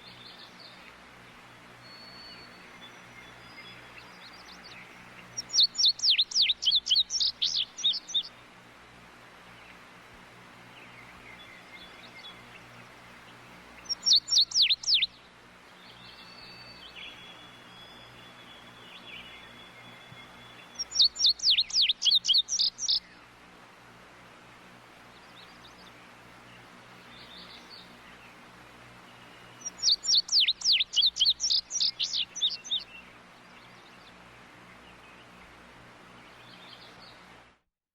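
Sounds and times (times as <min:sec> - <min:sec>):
songbird singing: 0:00.0 - 0:37.4
faint outdoor background: 0:00.0 - 0:37.7.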